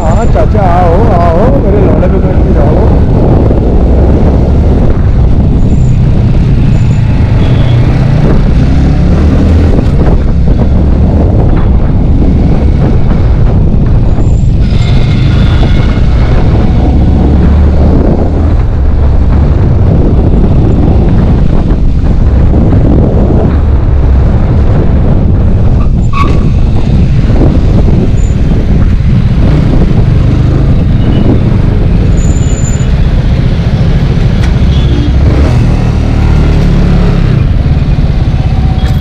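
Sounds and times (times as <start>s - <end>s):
motorcycle engine running: 0.0s - 39.0s
road and wind rumble: 0.0s - 39.0s.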